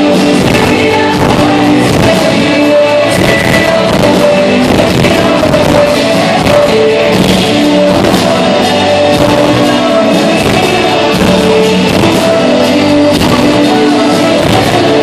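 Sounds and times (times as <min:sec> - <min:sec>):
drum beat: 0:00.2 - 0:02.5, 0:03.1 - 0:15.0.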